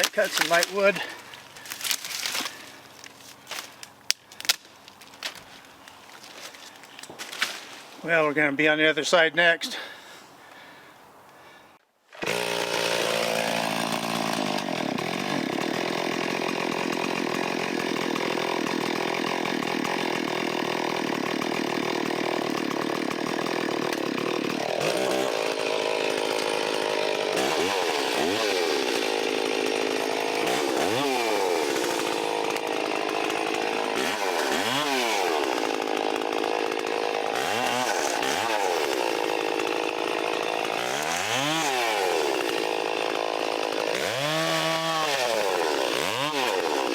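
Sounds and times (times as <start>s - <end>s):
chainsaw revving: 0.0s - 2.9s, 12.2s - 46.9s.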